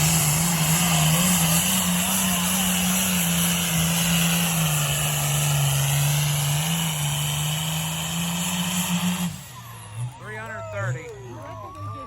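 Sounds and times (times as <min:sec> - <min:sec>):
engine running at high revs: 0:00.0 - 0:12.0.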